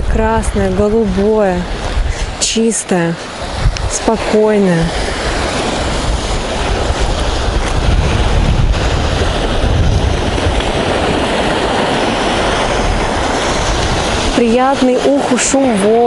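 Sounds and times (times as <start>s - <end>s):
small waves washing up beach: 0.0s - 16.0s
wind rumbling on microphone: 0.0s - 16.0s.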